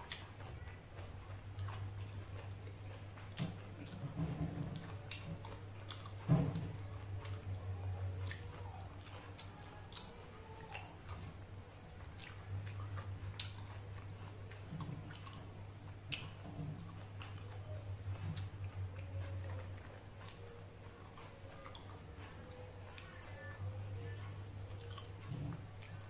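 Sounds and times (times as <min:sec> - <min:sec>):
chewing and mouth sounds: 0:00.0 - 0:26.0
steady low hum: 0:00.0 - 0:26.0.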